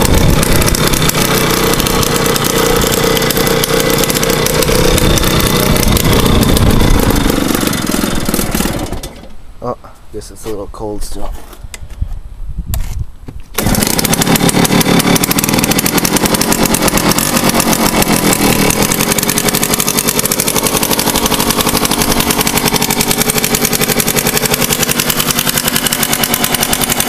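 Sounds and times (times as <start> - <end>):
two-stroke engine idling: 0.0 - 9.4, 13.6 - 27.0.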